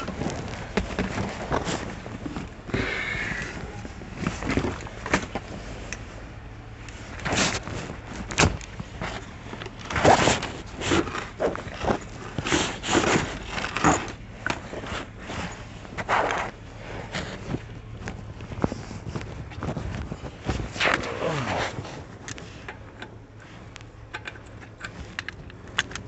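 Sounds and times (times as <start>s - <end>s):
knocks and clunks of items handled: 0.0s - 6.2s, 6.8s - 26.0s.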